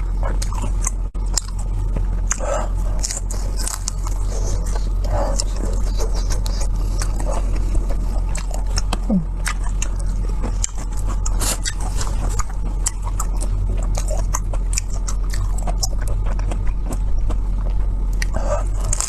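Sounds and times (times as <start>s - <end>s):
biting and chewing: 0.0s - 19.0s
steady low hum: 0.0s - 19.0s.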